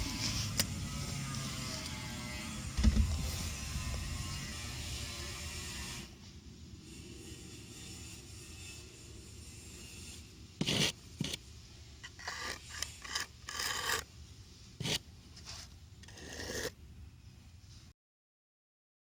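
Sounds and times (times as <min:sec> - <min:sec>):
scraping and rubbing strokes: 0:00.0 - 0:06.2, 0:06.8 - 0:16.8.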